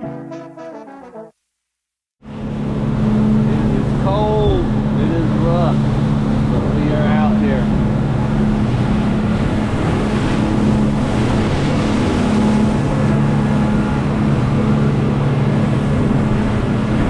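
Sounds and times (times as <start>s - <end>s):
motorboat engine running: 2.3s - 17.0s
rush of wind and water: 2.3s - 17.0s.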